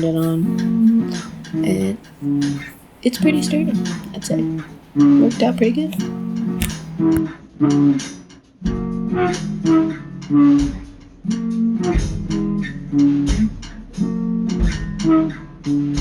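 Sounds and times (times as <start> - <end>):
guitar-led music with beat: 0.0 - 16.0.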